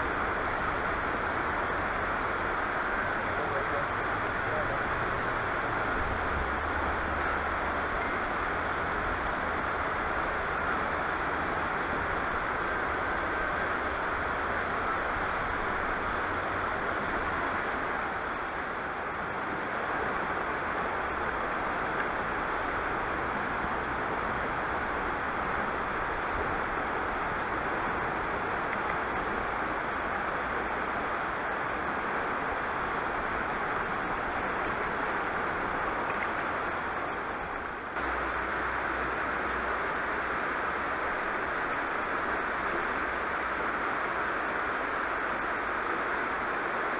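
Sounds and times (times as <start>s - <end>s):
river water over rapids: 0.0s - 46.9s.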